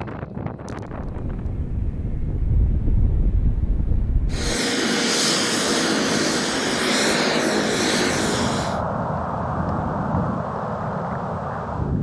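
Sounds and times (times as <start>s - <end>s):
turboprop engine whine: 0.0s - 12.0s.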